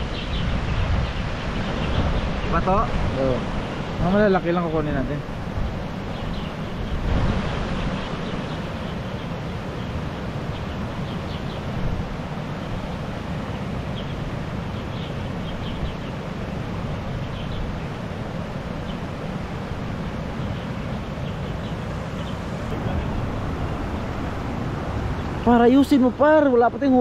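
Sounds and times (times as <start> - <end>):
water rushing over weir: 0.0 - 27.0
wind buffeting microphone: 0.0 - 27.0.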